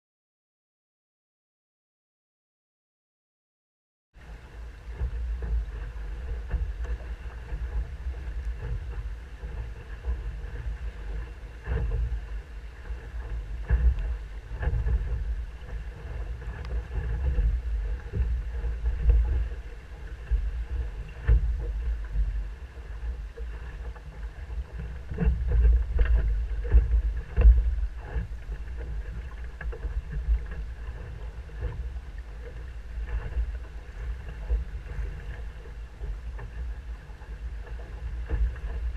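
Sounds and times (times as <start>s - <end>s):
hull rushing through choppy water: 4.2s - 38.9s
water slapping against hull: 4.2s - 38.9s
wind buffeting microphone: 4.2s - 38.9s.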